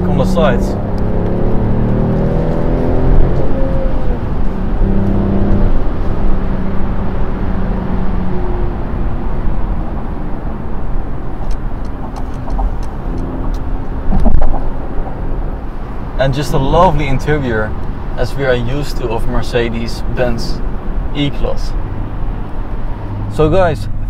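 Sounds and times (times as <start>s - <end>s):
low engine hum: 0.0s - 24.0s
tyre and road rumble: 0.0s - 24.0s.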